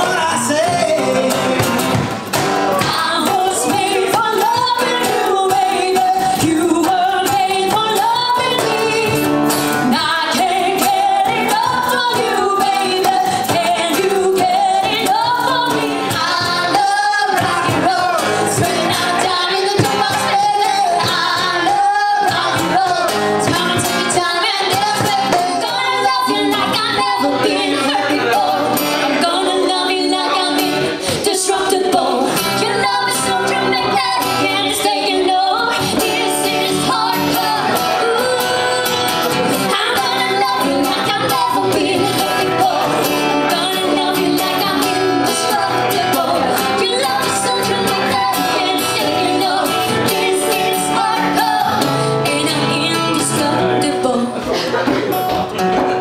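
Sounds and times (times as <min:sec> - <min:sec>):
strummed acoustic guitar: 0:00.0 - 0:56.0
woman singing: 0:02.8 - 0:54.6.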